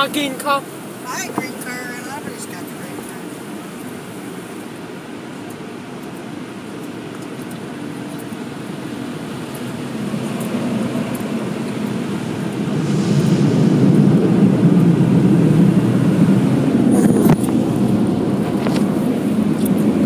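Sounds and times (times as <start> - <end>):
car wash machinery and water spray: 0.0 - 20.0.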